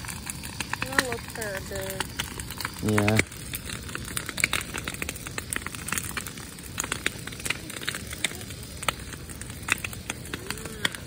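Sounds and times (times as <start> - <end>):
branches crackling and popping in fire: 0.0 - 11.0
steady low rush of fire: 0.0 - 11.0.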